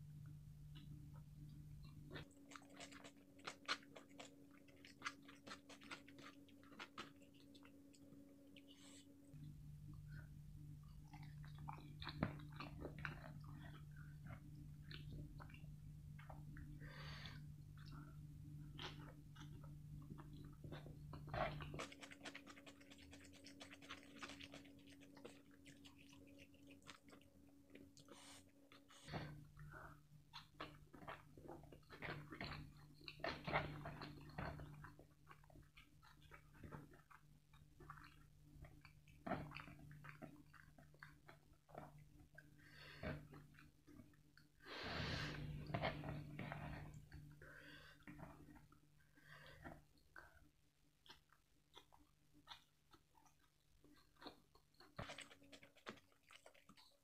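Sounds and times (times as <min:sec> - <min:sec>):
faint steady hum: 0:00.0 - 0:57.0
person chewing crispy food: 0:01.5 - 0:57.0.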